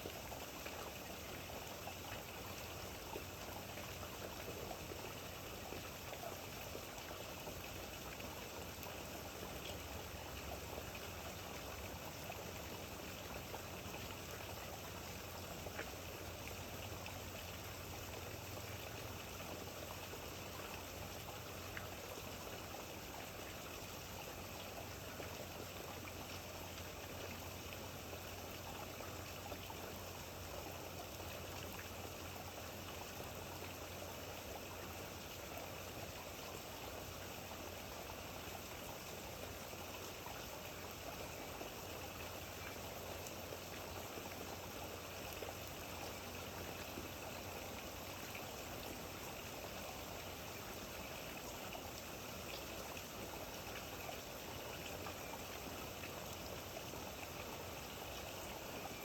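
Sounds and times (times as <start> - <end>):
trickling water: 0.0 - 59.0.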